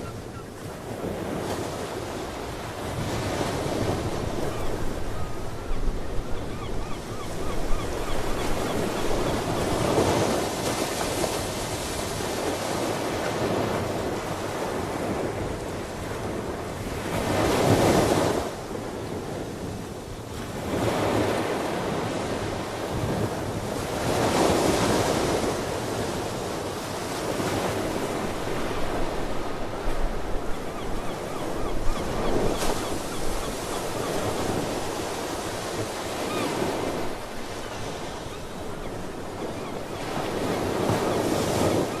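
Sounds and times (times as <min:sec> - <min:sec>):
ocean waves breaking: 0:00.0 - 0:42.0.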